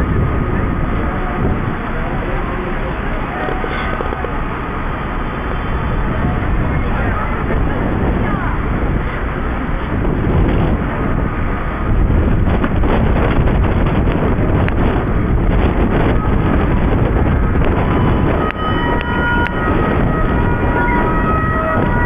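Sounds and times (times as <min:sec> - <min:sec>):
emergency vehicle sirens: 0:00.0 - 0:22.0
low rumbling noise: 0:00.0 - 0:22.0
wind on microphone: 0:00.0 - 0:22.0.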